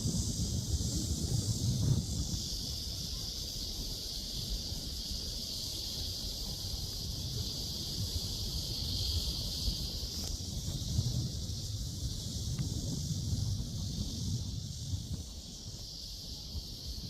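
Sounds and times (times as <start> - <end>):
insects chirping: 0.0 - 17.0
wind rumble on microphone: 0.0 - 17.0.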